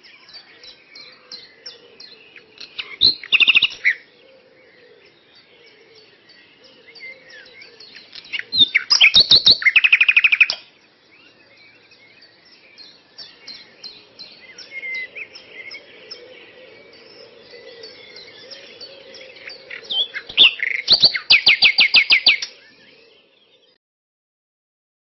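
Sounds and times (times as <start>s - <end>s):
birds chirping: 0.0s - 23.8s.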